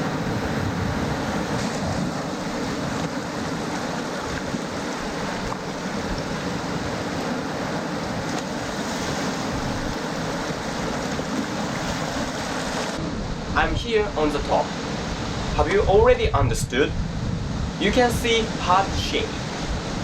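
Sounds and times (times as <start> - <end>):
sea surf washing: 0.0 - 20.0
wind noise on microphone: 0.0 - 20.0.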